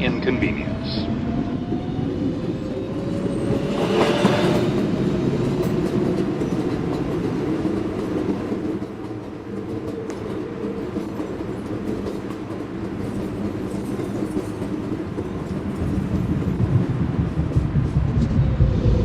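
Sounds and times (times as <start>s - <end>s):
subway car rumble: 0.0s - 19.0s.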